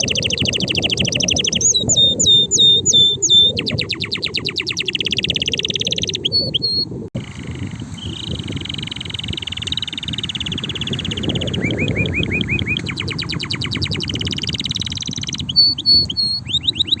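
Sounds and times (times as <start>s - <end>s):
canary singing trills: 0.0s - 17.0s
low steady background rumble: 0.0s - 17.0s.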